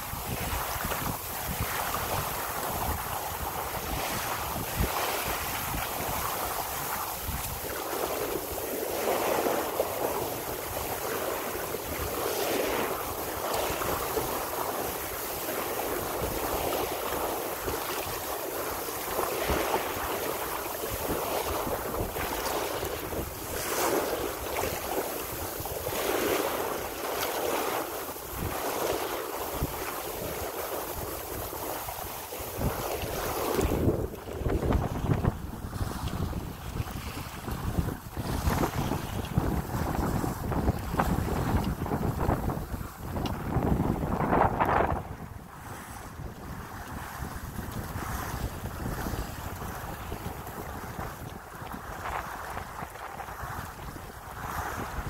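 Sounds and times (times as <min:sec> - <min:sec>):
bow wave splashing along hull: 0:00.0 - 0:55.0
wind buffeting microphone: 0:00.0 - 0:55.0.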